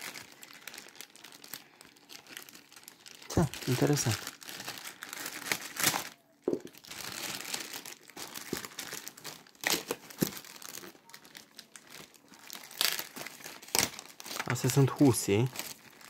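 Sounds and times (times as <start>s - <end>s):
plastic bag and paper crinkling: 0.0s - 16.0s.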